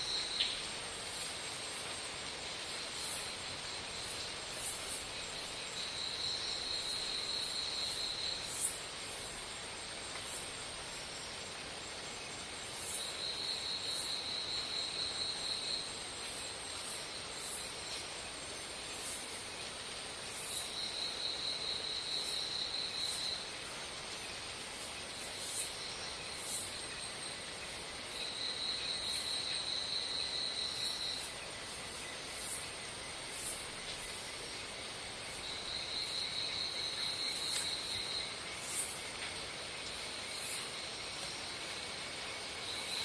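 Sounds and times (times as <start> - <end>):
insects trilling: 0.0 - 43.0
steady hiss: 0.0 - 43.0.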